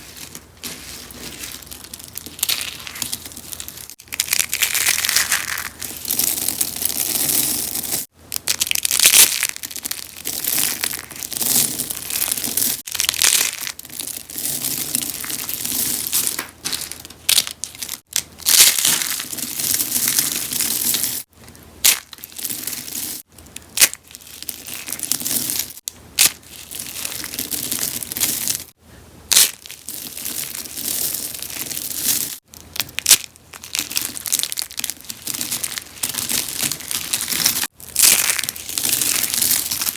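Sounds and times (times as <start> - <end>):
soap crunching and crumbling: 0.0 - 39.9.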